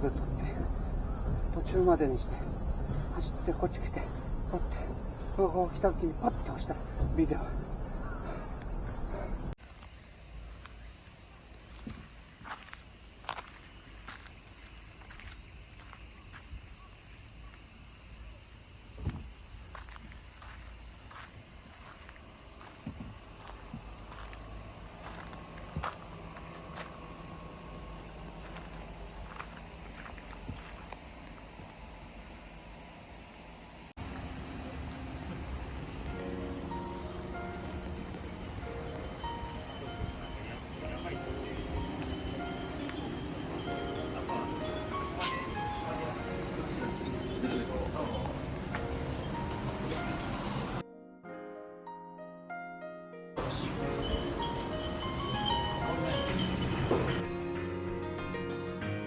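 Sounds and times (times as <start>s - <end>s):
high-pitched insect chorus: 0.0s - 50.8s, 53.4s - 57.4s.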